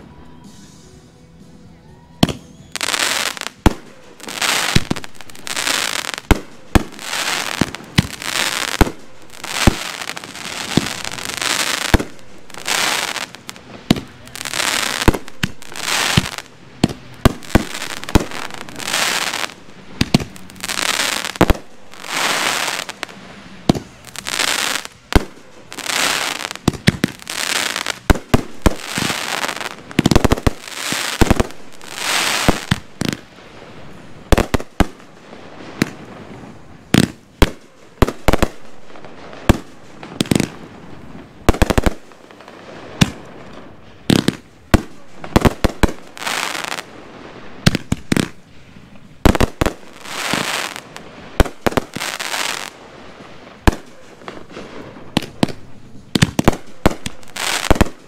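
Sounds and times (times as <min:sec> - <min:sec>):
fireworks bangs: 0:02.2 - 0:58.0
fireworks hissing: 0:02.3 - 0:58.0.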